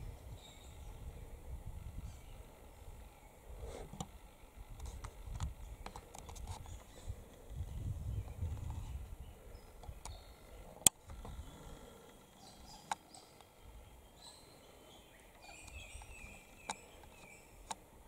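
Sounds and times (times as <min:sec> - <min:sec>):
faint bird calls: 0:00.0 - 0:18.0.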